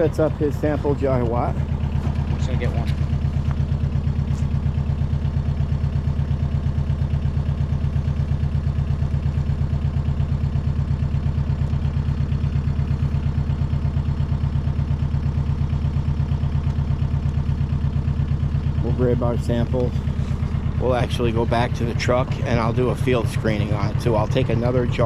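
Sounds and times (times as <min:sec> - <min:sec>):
machine engine throbbing steadily: 0:00.0 - 0:25.0.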